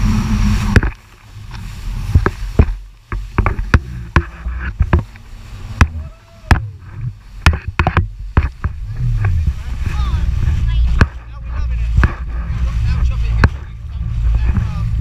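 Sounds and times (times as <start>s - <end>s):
hull slapping water: 0.0s - 15.0s
jet ski engine rumble: 0.0s - 15.0s.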